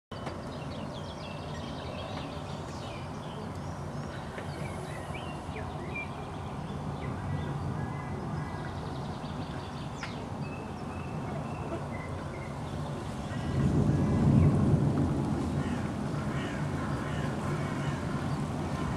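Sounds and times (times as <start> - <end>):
low rumble of wind: 0.1 - 18.9.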